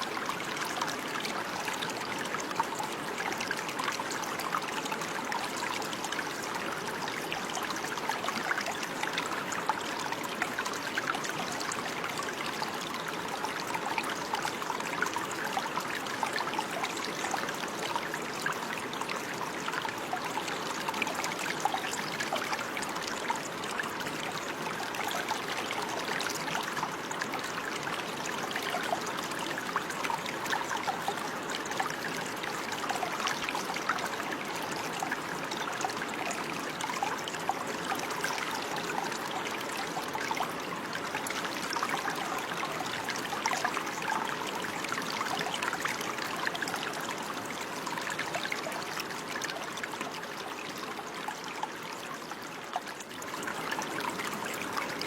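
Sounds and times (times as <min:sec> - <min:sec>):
babbling stream: 0:00.0 - 0:55.0.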